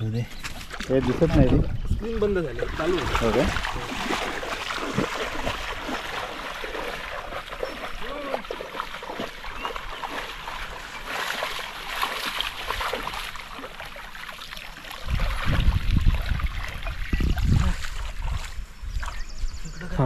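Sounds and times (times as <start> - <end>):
muddy water splashing and trickling: 0.0 - 20.0.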